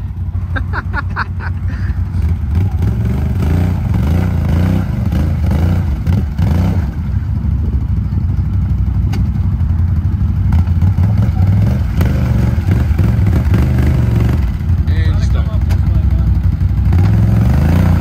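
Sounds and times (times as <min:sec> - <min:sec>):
atv engine under throttle: 0:00.0 - 0:18.0.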